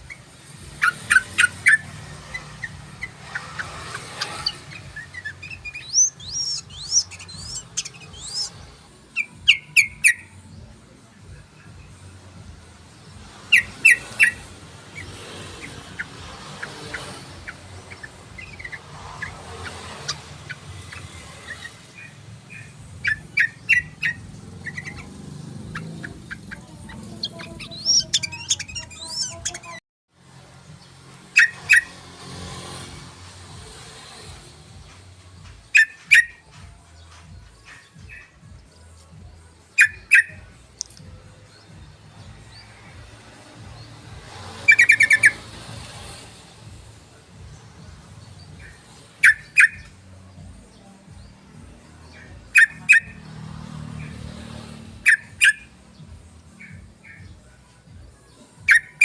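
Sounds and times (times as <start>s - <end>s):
bulbul song: 0.0s - 59.0s.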